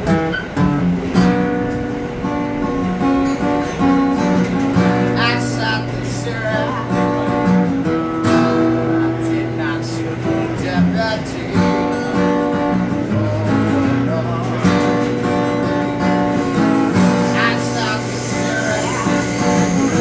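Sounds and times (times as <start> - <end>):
acoustic guitar strummed and picked: 0.0 - 20.0.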